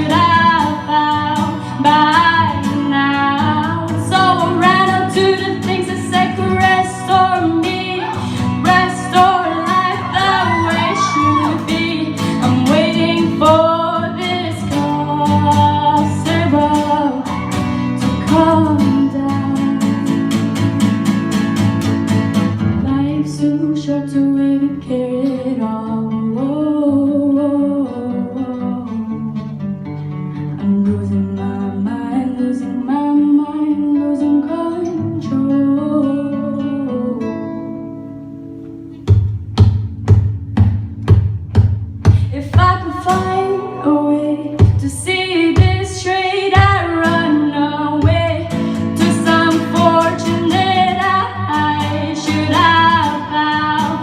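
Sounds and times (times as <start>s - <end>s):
girl singing: 0.0s - 20.2s, 22.8s - 29.2s, 30.6s - 37.6s, 42.2s - 54.0s
guitar strumming: 0.0s - 23.6s, 24.2s - 54.0s.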